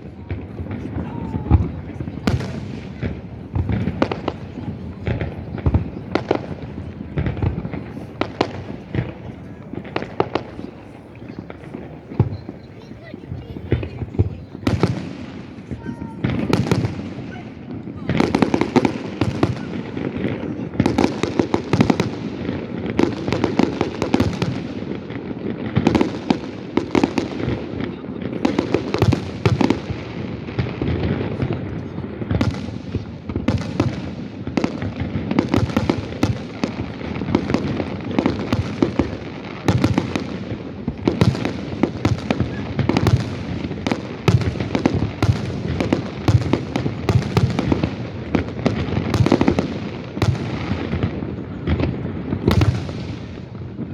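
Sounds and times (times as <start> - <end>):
fireworks sharp bangs: 0.0 - 53.9.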